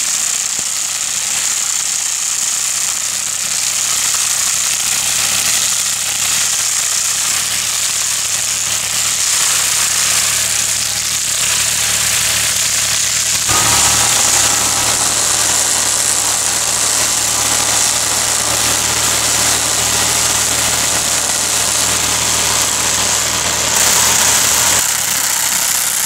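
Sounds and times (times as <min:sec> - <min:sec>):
rotary weeder rattling: 0:00.0 - 0:26.0
tractor engine running: 0:00.0 - 0:26.0.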